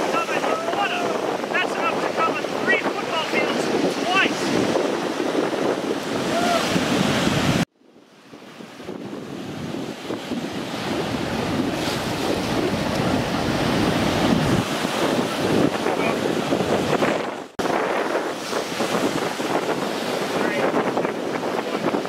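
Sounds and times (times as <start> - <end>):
surf breaking on rocks: 0.0 - 7.7, 8.8 - 22.0
wind buffeting microphone: 0.0 - 22.0.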